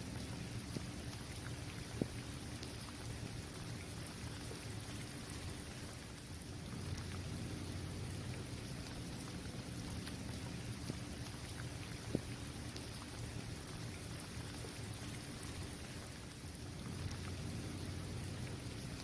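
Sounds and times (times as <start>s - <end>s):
rain falling: 0.0s - 19.0s
raindrops ticking: 0.0s - 19.0s.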